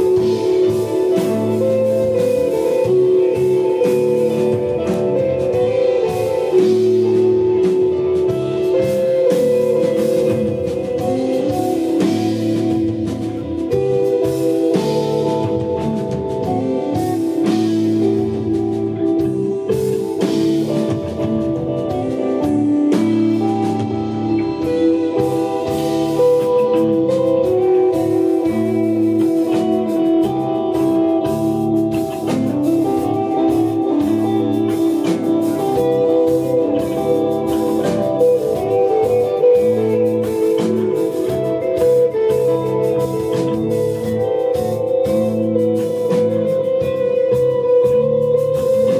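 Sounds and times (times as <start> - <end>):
electric guitar: 0.0 - 48.9
rock band playing live: 0.0 - 48.9.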